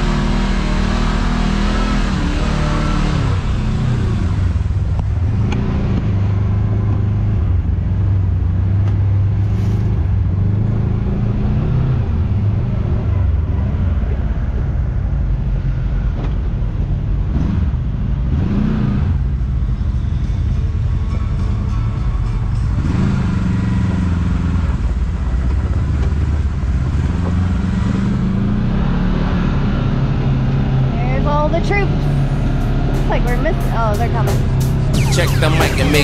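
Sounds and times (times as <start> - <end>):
off-road vehicle engine running: 0.0 - 36.0.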